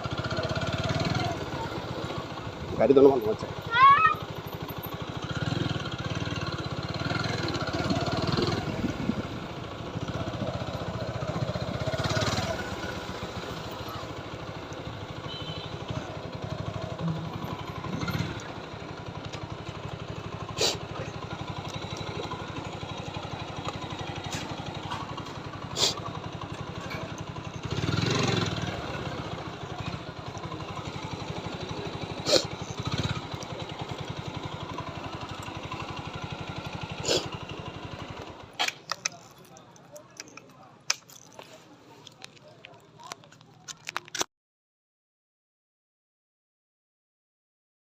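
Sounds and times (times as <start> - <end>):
motorcycle engine running: 0.0 - 40.7.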